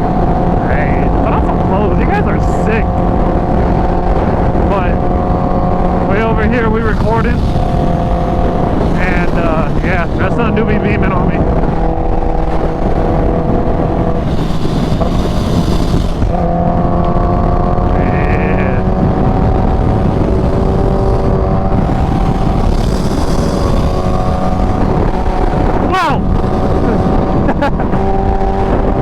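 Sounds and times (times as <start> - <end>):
motorcycle engine cruising: 0.0 - 29.0
wind rushing over microphone: 0.0 - 29.0.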